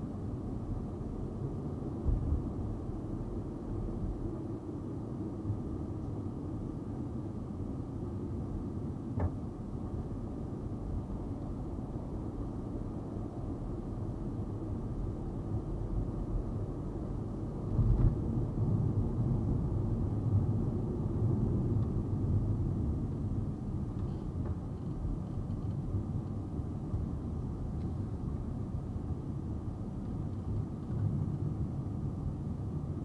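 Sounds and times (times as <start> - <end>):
road and engine rumble inside car: 0.0 - 33.0.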